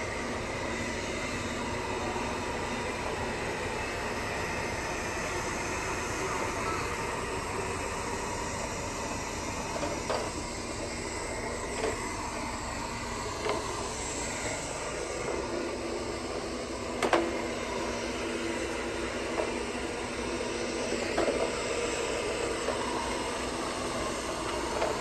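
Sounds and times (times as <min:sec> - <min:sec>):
robot vacuum humming: 0:00.0 - 0:25.0.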